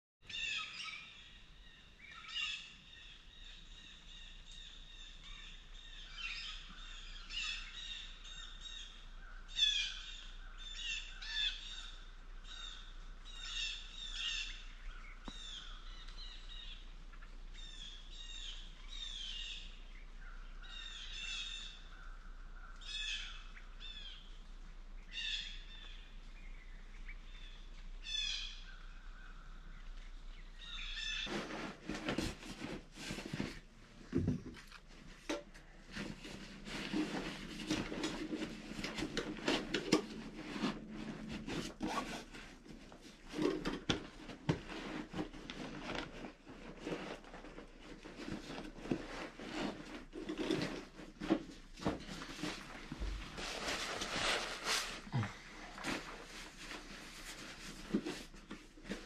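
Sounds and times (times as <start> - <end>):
background birdsong: 0.2 - 59.0.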